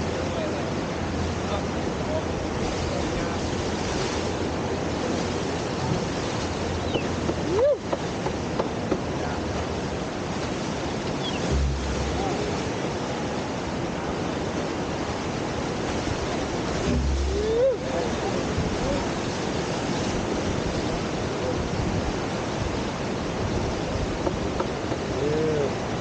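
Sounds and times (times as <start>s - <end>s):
whitewater rushing: 0.0s - 26.0s
wind rumble on microphone: 0.0s - 26.0s.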